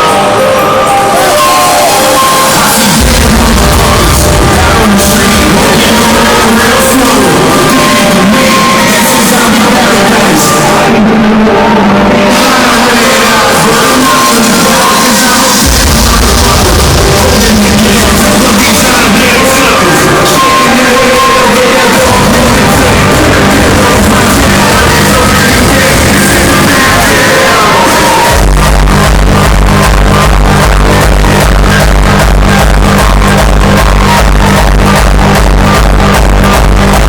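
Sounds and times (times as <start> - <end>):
crowd shouting and singing along: 0.0 - 37.0
hardstyle music over sound system: 0.0 - 37.0
heavy bass: 0.0 - 37.0.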